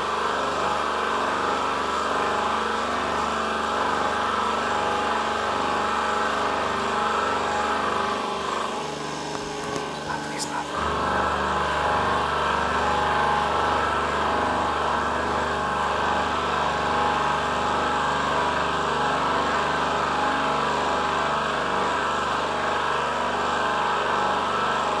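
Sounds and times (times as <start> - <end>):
hydraulic power supply running: 0.0 - 25.0.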